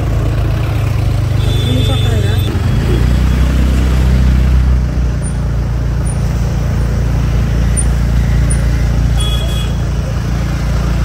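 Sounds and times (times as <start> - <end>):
motor scooter engine and road rumble: 0.0 - 11.0.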